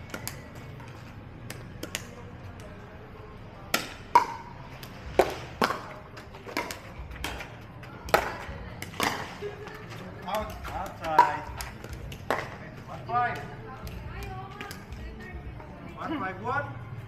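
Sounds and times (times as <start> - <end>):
paddles hitting plastic ball: 0.0 - 2.7, 3.7 - 15.0.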